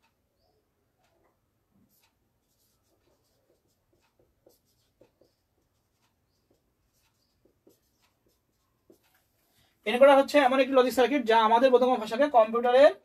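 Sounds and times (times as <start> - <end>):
marker writing on whiteboard: 1.0 - 13.0.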